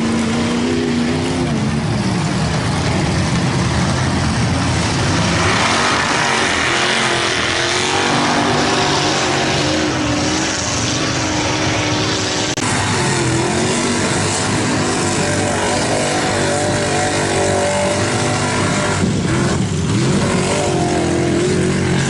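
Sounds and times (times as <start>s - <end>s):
dense rushing noise: 0.0s - 22.0s
truck engine revving hard: 0.0s - 22.0s.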